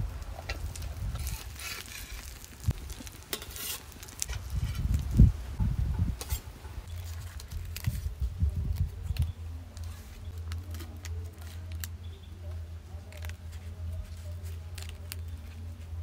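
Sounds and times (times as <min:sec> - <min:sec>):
dry leaves crackling and tearing: 0:00.0 - 0:05.3, 0:06.8 - 0:16.0.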